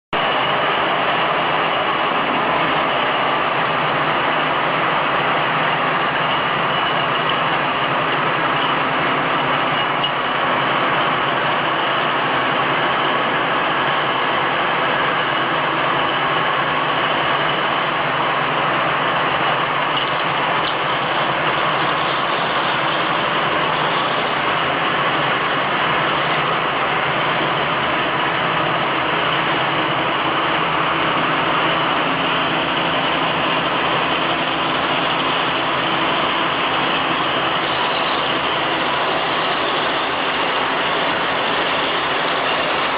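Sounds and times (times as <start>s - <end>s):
bottle washing machine running: 0.1s - 42.9s.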